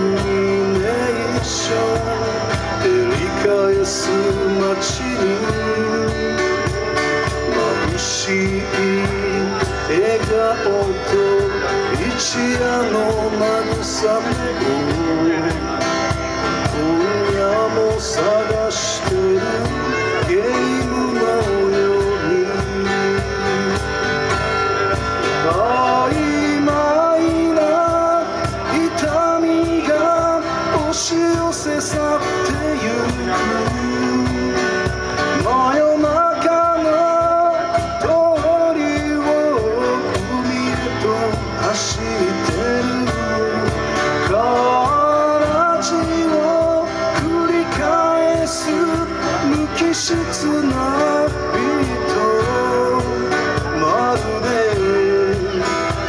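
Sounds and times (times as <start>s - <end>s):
acoustic guitars strummed: 0.0s - 56.0s
cajon beat: 0.0s - 56.0s
man singing: 0.0s - 56.0s.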